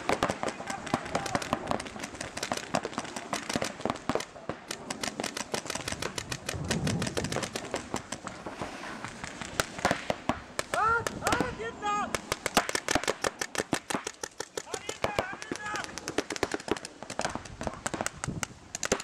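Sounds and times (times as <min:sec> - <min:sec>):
paintball markers popping: 0:00.0 - 0:11.5, 0:12.1 - 0:19.0.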